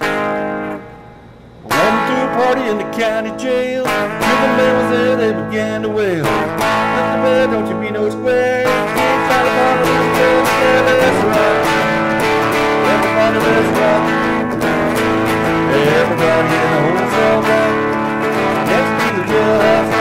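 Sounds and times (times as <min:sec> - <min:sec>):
electric guitar lead lines: 0:00.0 - 0:20.0.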